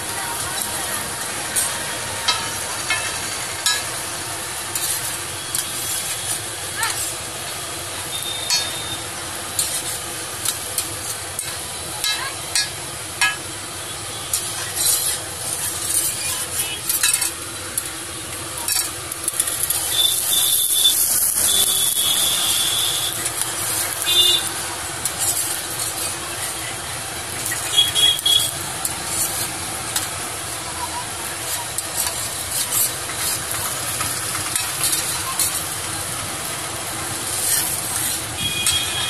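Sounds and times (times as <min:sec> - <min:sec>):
sandwiches sizzling on a griddle: 0:00.0 - 0:39.0
metal spatula scraping griddle: 0:00.2 - 0:07.2, 0:08.1 - 0:13.4, 0:14.2 - 0:30.6, 0:31.2 - 0:39.0.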